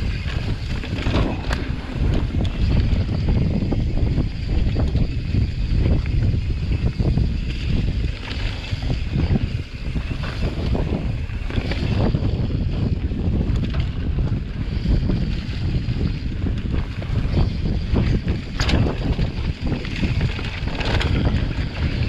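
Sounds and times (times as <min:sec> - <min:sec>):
bike rattling over bumps: 0:00.0 - 0:22.0
bike tyres rumbling on dirt: 0:00.0 - 0:22.0
wind buffeting microphone: 0:00.0 - 0:22.0.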